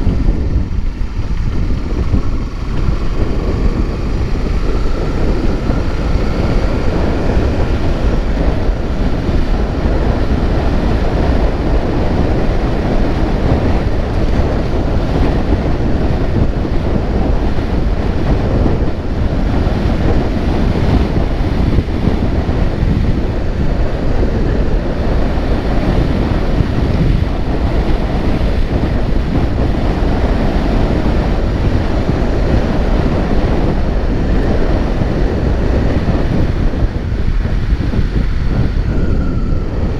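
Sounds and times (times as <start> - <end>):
vehicle running: 0.0 - 39.9
wind buffeting microphone: 0.0 - 39.9.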